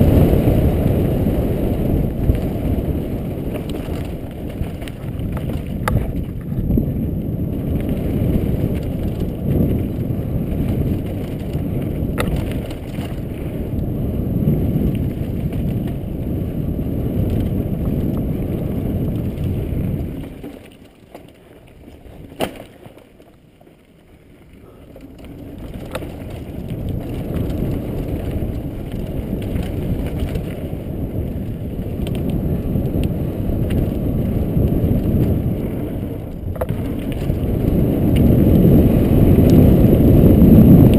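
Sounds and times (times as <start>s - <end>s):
wind on microphone: 0.0s - 20.5s, 24.6s - 40.9s
bike clicks and rattles: 0.0s - 40.9s
tyres on dirt: 0.0s - 40.9s.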